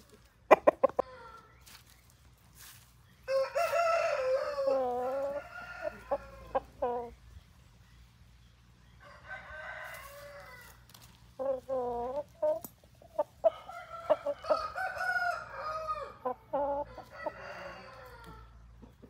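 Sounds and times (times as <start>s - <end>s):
roosters crowing and clucking: 0.0s - 19.0s.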